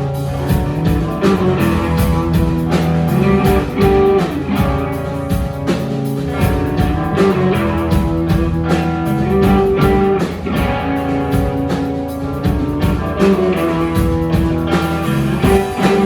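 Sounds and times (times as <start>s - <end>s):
guitars strumming chords: 0.0s - 16.0s
steady drum beat: 0.0s - 16.0s.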